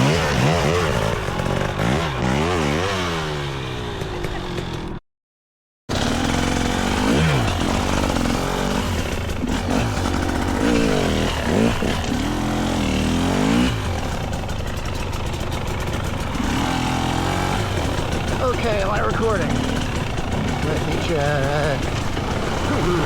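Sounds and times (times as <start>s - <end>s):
dirt bike engine revving: 0.0s - 5.0s, 5.9s - 23.0s.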